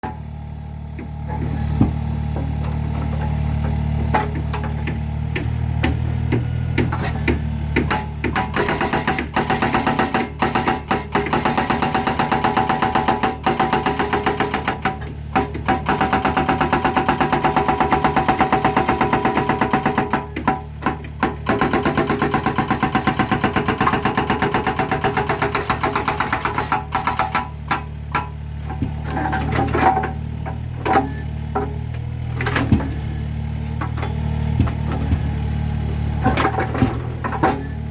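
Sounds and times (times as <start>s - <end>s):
excavator engine running: 0.0s - 37.9s
hydraulic breaker hammering concrete: 1.0s - 33.0s, 36.2s - 37.9s.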